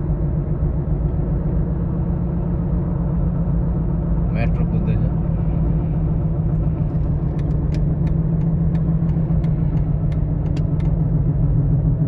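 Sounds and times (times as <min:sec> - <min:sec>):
car engine idling rumble: 0:00.0 - 0:12.0.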